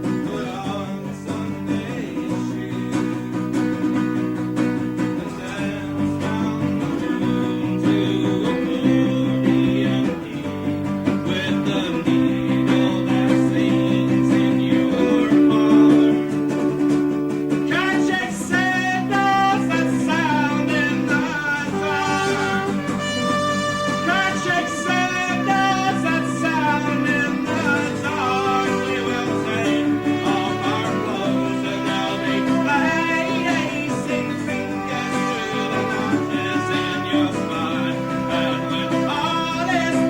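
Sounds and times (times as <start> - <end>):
person singing: 0.0 - 3.6, 5.0 - 17.0, 17.6 - 40.0
acoustic guitar strumming: 0.0 - 40.0.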